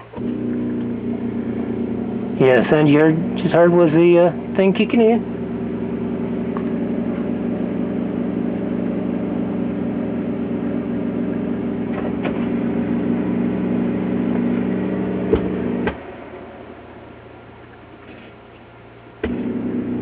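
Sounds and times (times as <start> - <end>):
electric water pump humming: 0.0 - 20.0.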